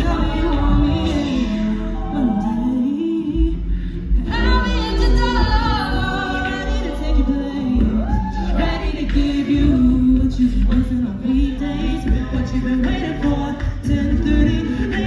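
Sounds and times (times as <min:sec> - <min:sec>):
a cappella group singing: 0:00.0 - 0:15.0
lead voice singing: 0:00.0 - 0:15.0.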